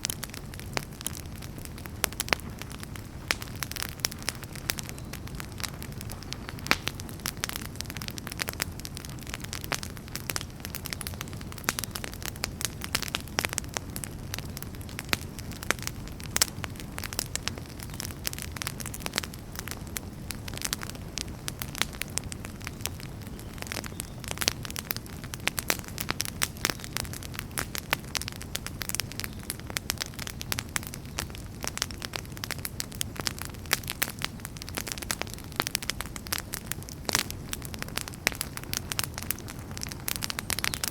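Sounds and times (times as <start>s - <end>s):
campfire pops and snaps: 0.0s - 40.9s
low rumble of flames: 0.0s - 40.9s.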